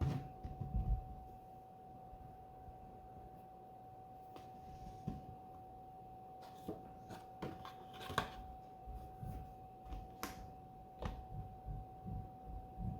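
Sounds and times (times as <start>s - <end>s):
faint high hum: 0.0s - 12.9s.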